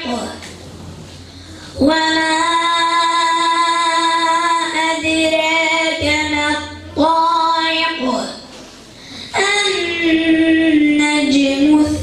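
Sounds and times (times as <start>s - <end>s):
boy reciting melodically: 0.0s - 0.4s, 1.4s - 8.5s, 9.1s - 12.0s.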